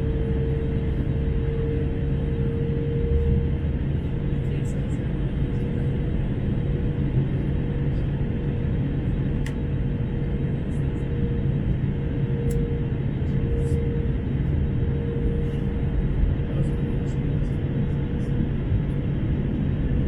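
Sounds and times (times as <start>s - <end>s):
airplane cabin engine rumble: 0.0s - 20.0s
constant hum: 0.0s - 20.0s.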